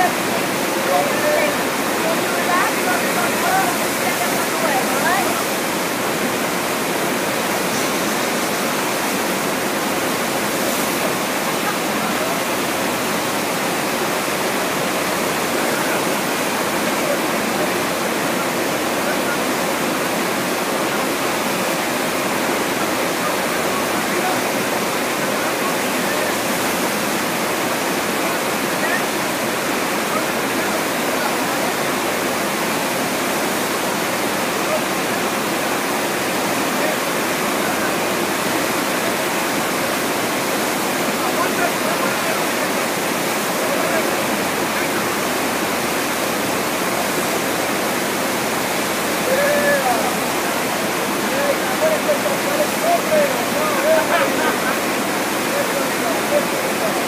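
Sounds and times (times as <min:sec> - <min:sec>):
rushing water churning: 0:00.0 - 0:57.0.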